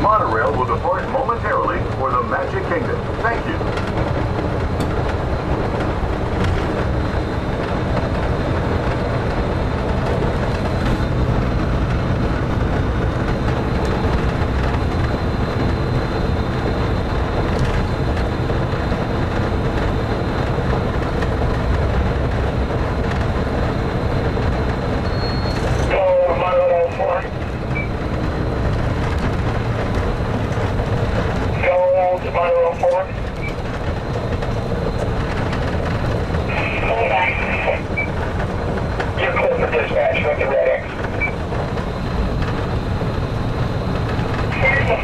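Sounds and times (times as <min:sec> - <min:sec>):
monorail train rumble: 0:00.0 - 0:45.0.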